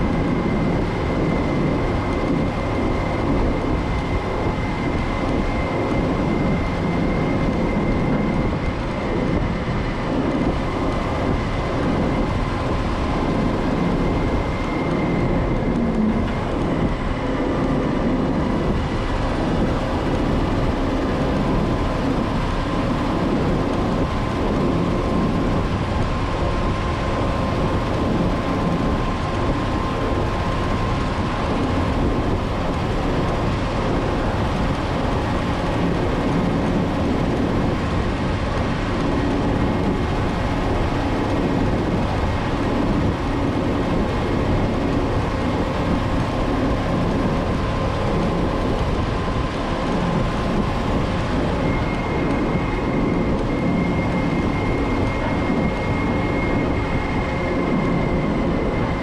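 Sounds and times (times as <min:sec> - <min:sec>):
diesel engine running: 0:00.0 - 0:59.0
faint thin whine: 0:00.0 - 0:59.0
road and drivetrain rumble: 0:00.0 - 0:59.0.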